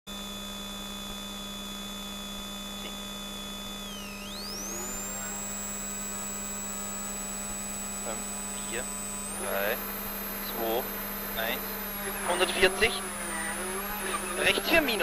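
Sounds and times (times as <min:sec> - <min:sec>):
high whine shifting pitch: 0:00.1 - 0:15.0
whining tones: 0:00.1 - 0:15.0
steady electrical hum: 0:00.7 - 0:15.0.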